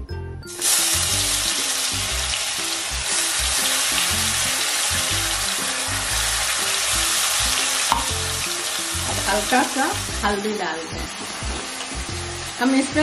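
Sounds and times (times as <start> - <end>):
background music: 0.0 - 13.0
paste sizzling in hot oil: 0.5 - 13.0.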